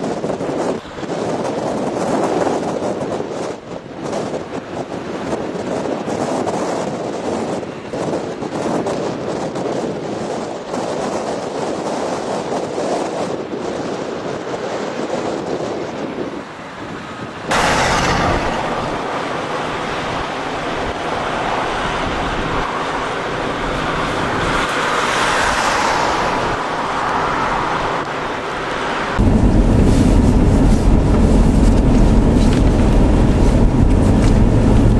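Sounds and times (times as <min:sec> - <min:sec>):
storm wind buffeting microphone: 0:00.0 - 0:34.9.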